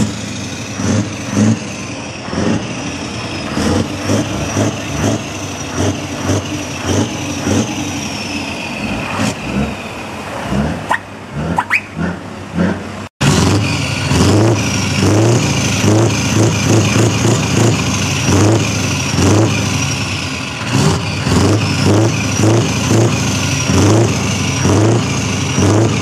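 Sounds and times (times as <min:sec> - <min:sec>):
diesel truck engines running: 0:00.0 - 0:26.0
loud truck engine pulsing: 0:00.0 - 0:26.0.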